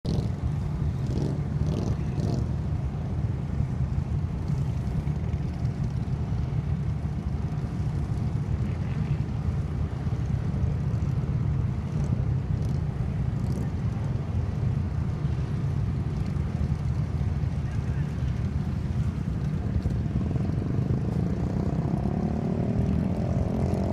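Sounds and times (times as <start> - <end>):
engines droning under load: 0.0 - 23.9.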